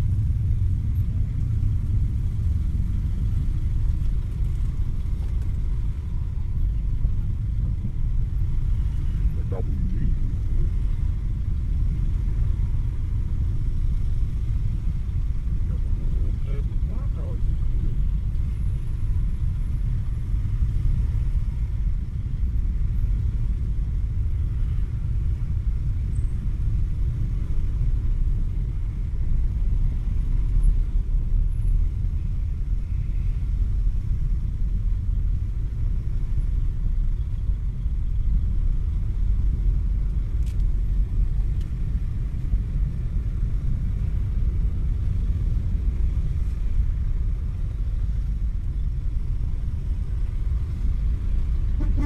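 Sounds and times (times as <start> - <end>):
traffic rumble: 0.0 - 52.0.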